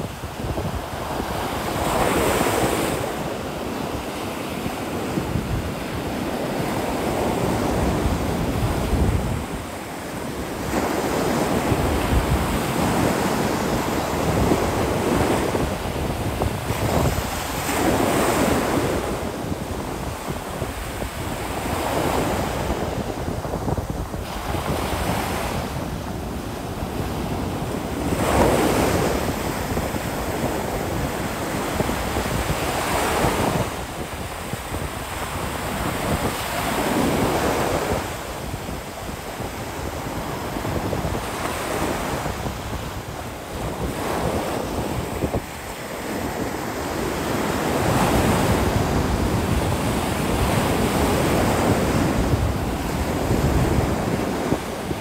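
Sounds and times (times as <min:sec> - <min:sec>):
waves breaking on beach: 0:00.0 - 0:55.0
wind rumbling on microphone: 0:00.0 - 0:55.0.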